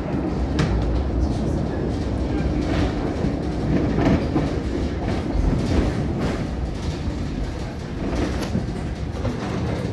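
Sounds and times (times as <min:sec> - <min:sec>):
tram wheels rumbling on rails: 0:00.0 - 0:09.9
faint clacks: 0:00.5 - 0:09.9.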